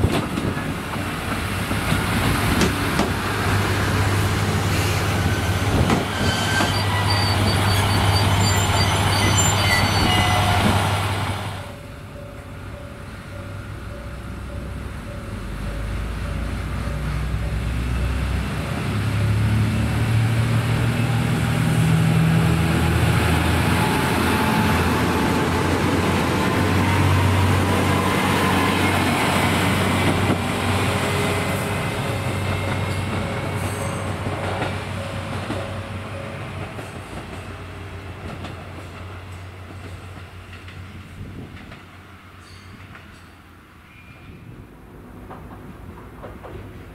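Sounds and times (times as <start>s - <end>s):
diesel railcar engine whining: 0.0s - 46.9s.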